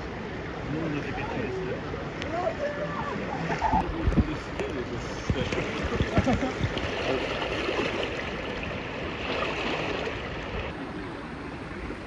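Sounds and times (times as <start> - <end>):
stream water rushing over rocks: 0.0 - 12.0.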